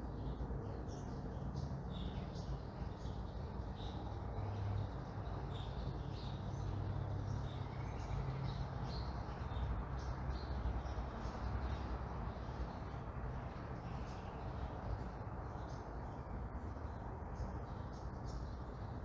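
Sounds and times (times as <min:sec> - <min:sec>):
low rumble of traffic: 0:00.0 - 0:19.0
small birds chirping: 0:00.0 - 0:19.0.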